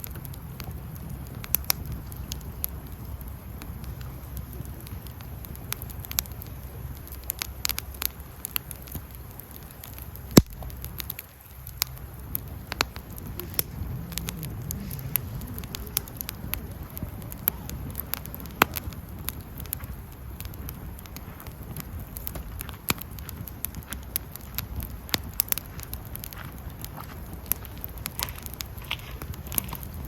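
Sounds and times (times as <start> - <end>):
campfire crackling and popping: 0.0 - 30.0
low steady fire rumble: 0.0 - 30.0.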